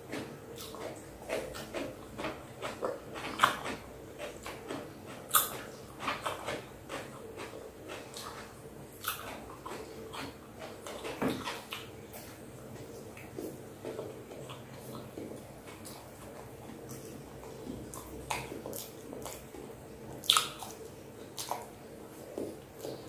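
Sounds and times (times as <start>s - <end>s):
close chewing and mouth smacks: 0.0s - 23.0s.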